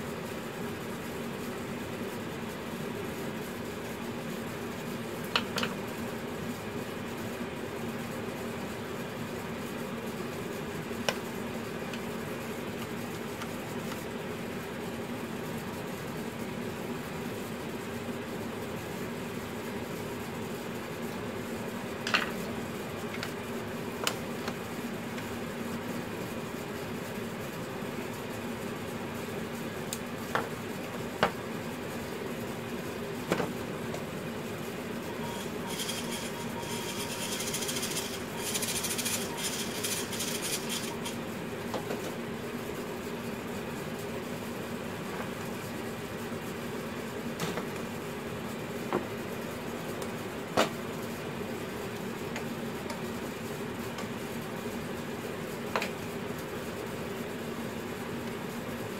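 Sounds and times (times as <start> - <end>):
steady background hum: 0.0 - 58.9.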